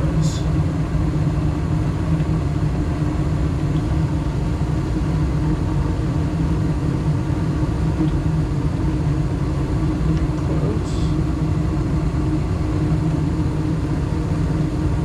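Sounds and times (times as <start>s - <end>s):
gas furnace humming: 0.0s - 15.0s.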